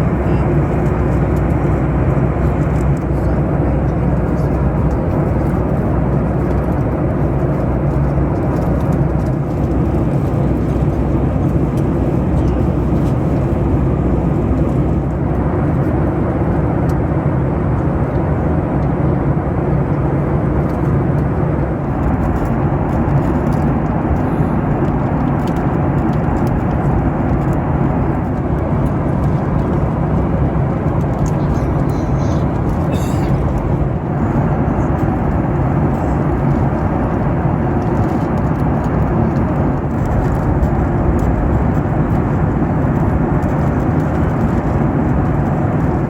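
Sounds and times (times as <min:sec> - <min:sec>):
airliner cabin noise: 0:00.0 - 0:46.0.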